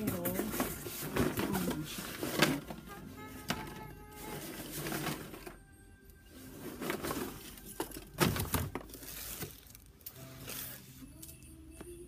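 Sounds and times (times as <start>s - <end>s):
plastic and cardboard rustling: 0.0s - 5.7s, 6.3s - 11.0s.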